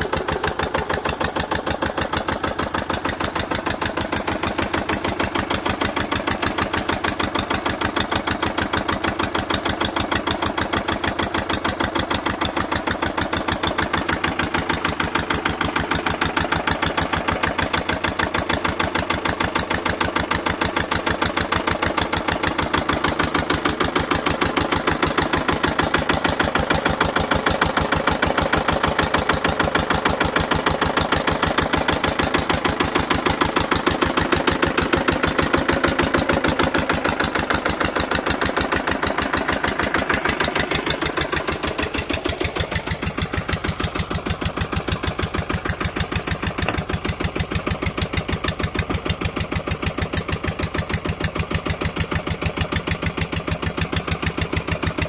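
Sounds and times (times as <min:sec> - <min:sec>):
diesel engine running steadily: 0:00.0 - 0:55.0.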